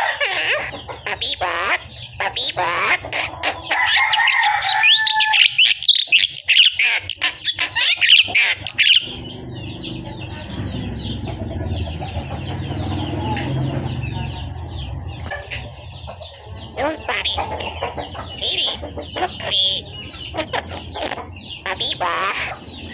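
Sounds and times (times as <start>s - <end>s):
parrot chattering and chirping: 0.0s - 22.9s.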